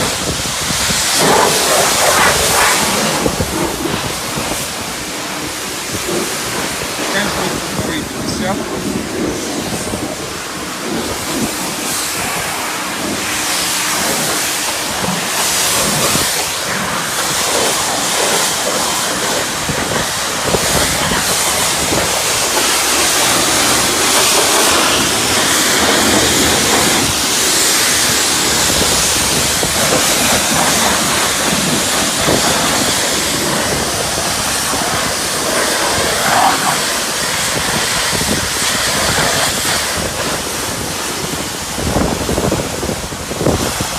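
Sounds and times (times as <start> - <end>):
pressure washer spray hissing: 0.0 - 43.9.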